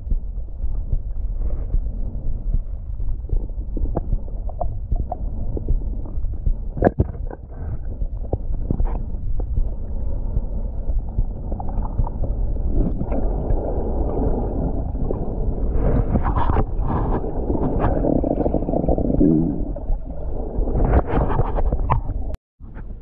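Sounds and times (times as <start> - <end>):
underwater rumble and swish: 0.0 - 23.0.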